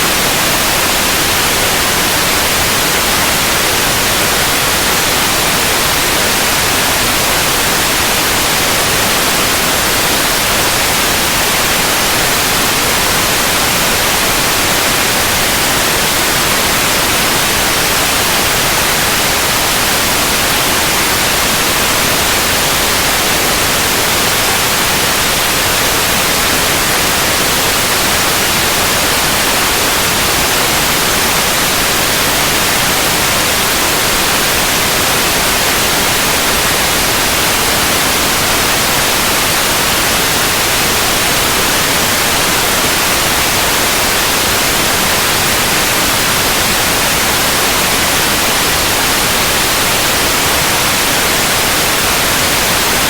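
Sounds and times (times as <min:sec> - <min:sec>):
white noise hiss: 0:00.0 - 0:53.0.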